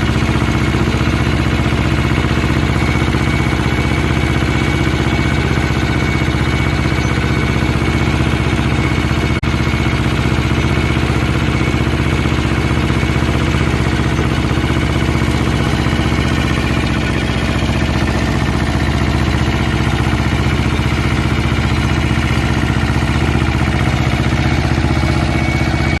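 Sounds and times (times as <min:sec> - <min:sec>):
small tractor engine running: 0:00.0 - 0:26.0.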